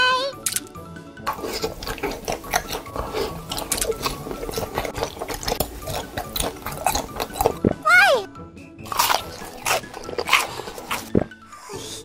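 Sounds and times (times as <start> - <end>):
wet chewing and mouth-smacking: 0.4 - 7.8, 8.8 - 11.8.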